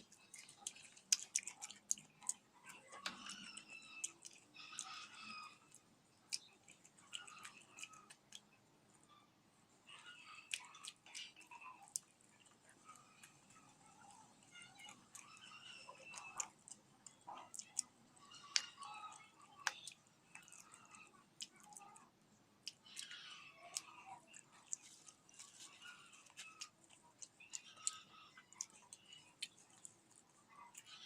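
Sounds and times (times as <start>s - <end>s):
person chewing: 0.0s - 9.3s, 9.9s - 31.0s
mouth clicks and crunches: 0.0s - 31.0s.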